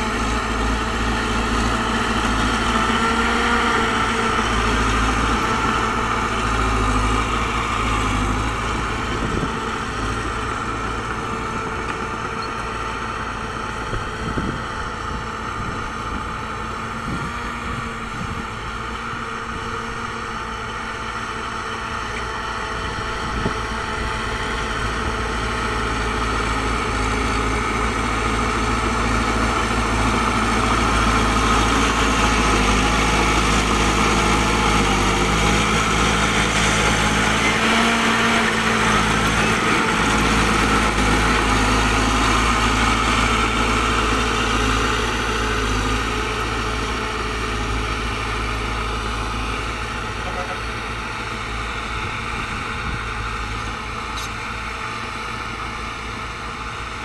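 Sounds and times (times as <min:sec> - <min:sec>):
bulldozer diesel engine under load: 0:00.0 - 0:57.0.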